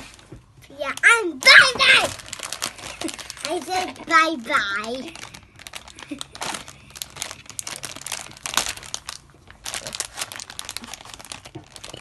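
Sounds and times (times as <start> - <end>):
plastic packet crinkling: 0.8 - 12.0.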